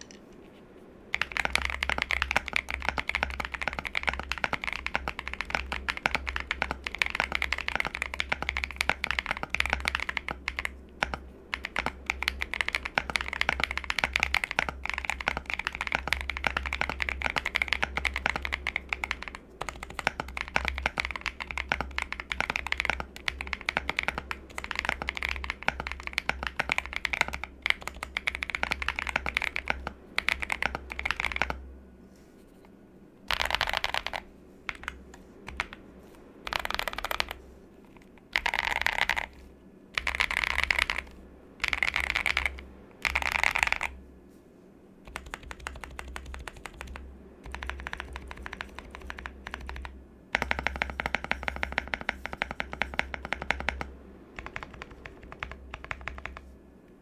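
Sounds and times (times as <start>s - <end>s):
mechanical keyboard typing: 1.1s - 31.6s, 33.3s - 35.8s, 36.4s - 39.4s, 40.0s - 44.0s, 45.0s - 56.5s.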